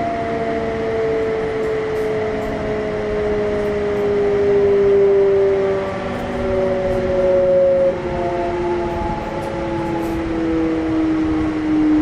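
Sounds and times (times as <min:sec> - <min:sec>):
train motors whining: 0:00.0 - 0:12.0
wheels rumbling on rail: 0:00.0 - 0:12.0.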